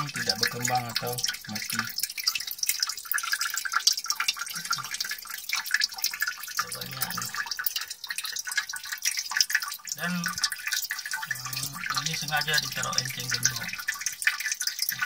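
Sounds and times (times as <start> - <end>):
bubbles: 0.0 - 15.0
water trickling in aquarium: 0.0 - 15.0.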